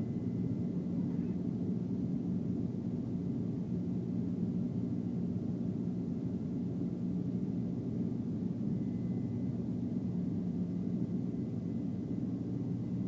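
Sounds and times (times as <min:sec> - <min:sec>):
jet engines heard from cabin: 0:00.0 - 0:13.0.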